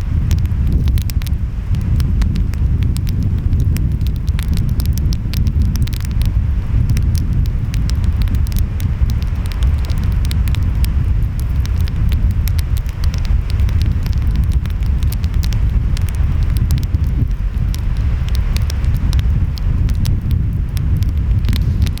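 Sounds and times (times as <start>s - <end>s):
surf rumble: 0.0s - 22.0s
wind: 0.0s - 22.0s
wood fire crackling: 0.0s - 22.0s.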